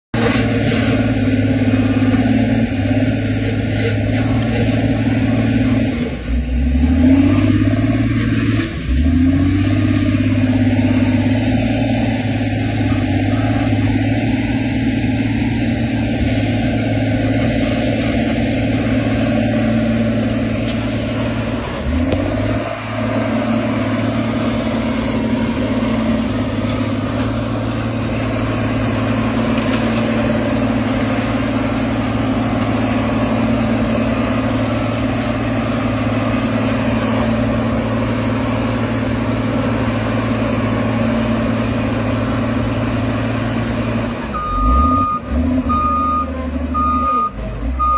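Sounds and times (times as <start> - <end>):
heavy vehicle engine running: 0.1 - 47.9.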